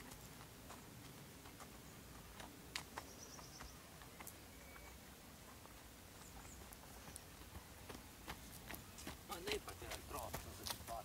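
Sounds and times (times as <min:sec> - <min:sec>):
horse hooves on sand: 0:00.0 - 0:11.0.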